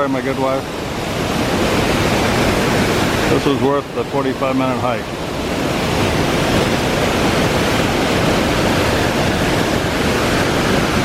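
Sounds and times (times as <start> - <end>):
waterfall crashing: 0.0 - 11.0.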